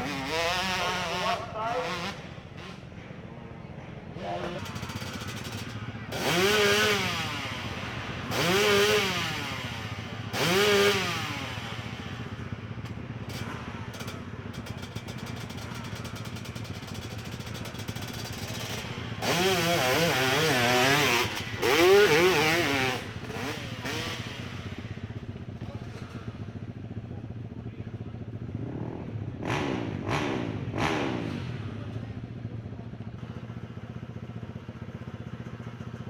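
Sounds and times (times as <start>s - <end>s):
motorcycle engine revving and idling: 0.0s - 36.0s.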